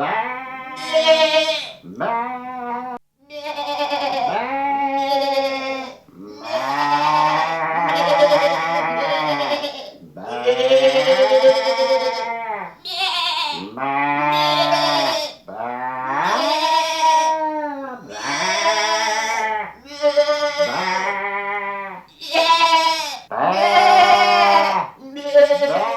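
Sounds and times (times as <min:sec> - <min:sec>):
sheep bleating: 0:00.0 - 0:25.9.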